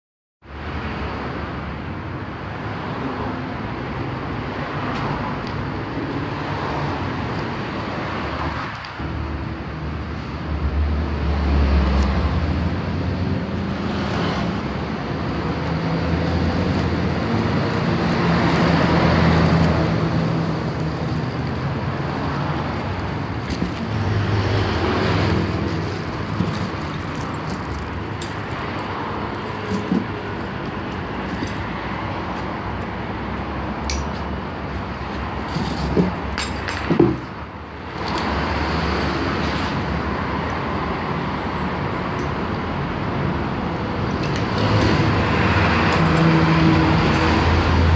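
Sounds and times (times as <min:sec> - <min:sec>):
traffic noise: 0:00.4 - 0:47.9.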